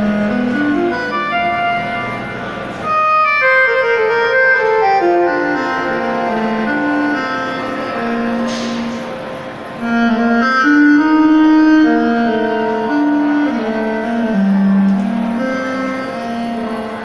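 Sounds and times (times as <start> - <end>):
saxophone melody: 0.0 - 17.0.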